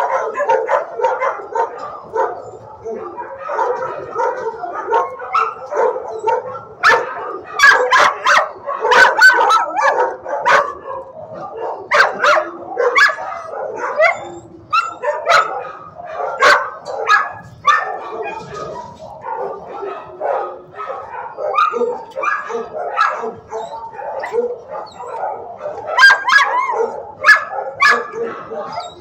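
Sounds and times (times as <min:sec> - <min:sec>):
dogs barking and yipping: 0:00.0 - 0:29.0.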